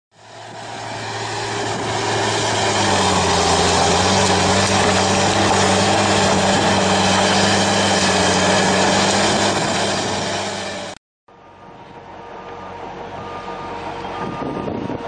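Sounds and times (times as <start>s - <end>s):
engine running steadily: 0.1s - 15.0s.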